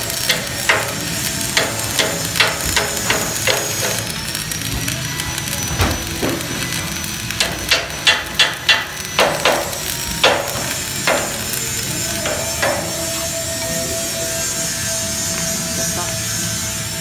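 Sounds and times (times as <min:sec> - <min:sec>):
welding arc crackling: 0:00.0 - 0:17.0.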